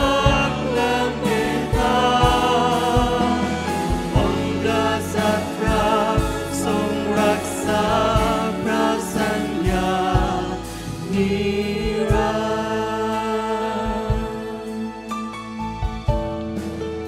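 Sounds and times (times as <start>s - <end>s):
drums with steady kick: 0.0s - 13.2s, 13.8s - 14.8s
singers in harmony: 0.0s - 16.0s
keyboard: 0.0s - 17.0s.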